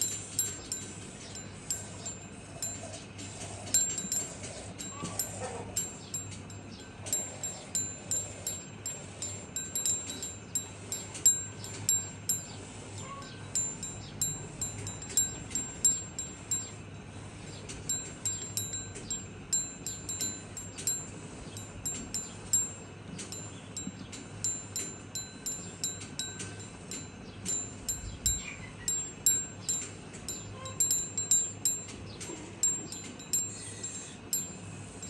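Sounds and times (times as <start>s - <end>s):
small metal bells tinkling: 0.0s - 35.0s.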